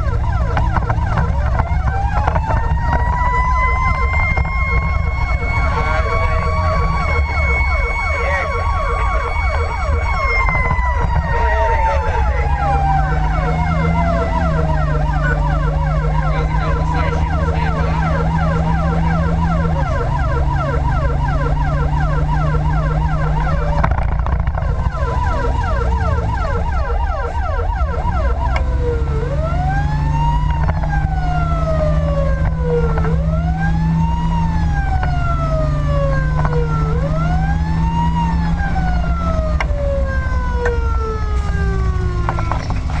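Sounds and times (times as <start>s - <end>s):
fire engine siren: 0.0s - 43.0s
truck engine drone: 0.0s - 43.0s.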